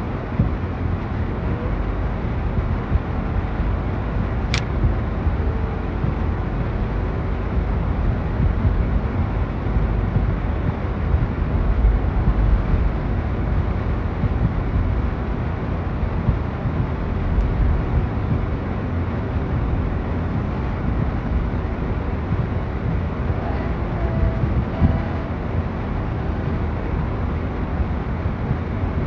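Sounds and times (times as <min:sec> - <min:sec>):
rumbling outdoor noise: 0:00.0 - 0:29.0.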